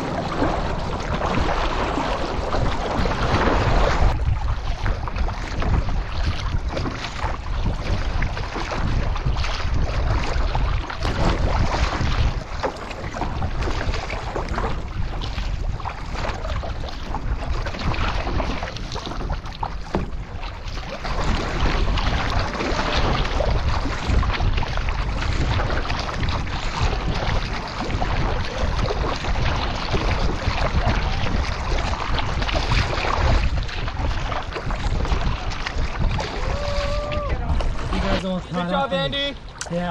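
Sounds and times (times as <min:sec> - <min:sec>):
paddle strokes splashing: 0:00.0 - 0:39.9
water rushing along hull: 0:00.0 - 0:39.9
wind buffeting microphone: 0:00.0 - 0:39.9.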